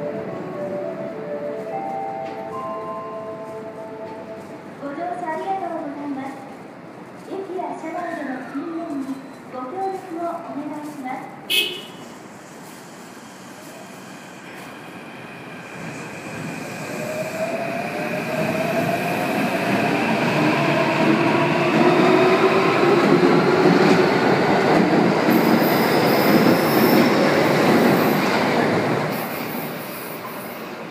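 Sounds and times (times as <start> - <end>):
train wheels on rails: 1.4 - 30.9.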